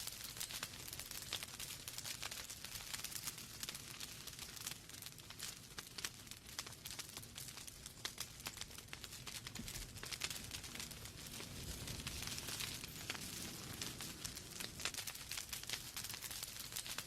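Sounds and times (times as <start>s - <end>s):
logs crackling in a fireplace: 0.0s - 17.0s.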